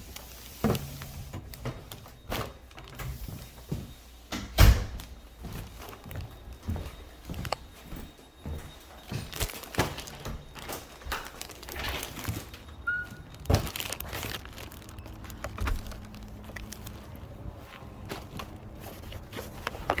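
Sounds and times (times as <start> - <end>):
crinkling and rustling handling: 0.0 - 4.2, 5.0 - 20.0.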